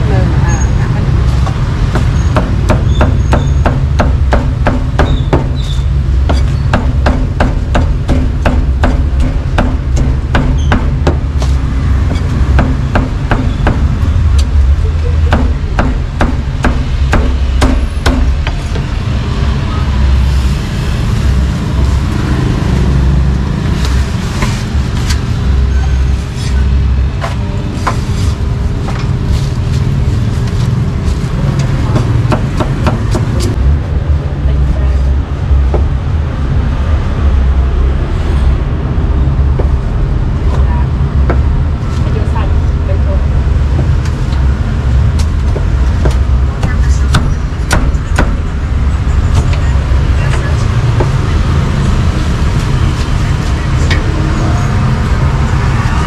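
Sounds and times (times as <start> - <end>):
steady low rumble: 3.6 - 56.0.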